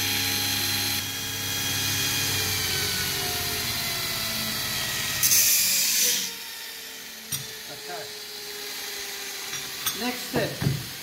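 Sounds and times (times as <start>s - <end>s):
electric motor spinning down: 0.0s - 11.0s.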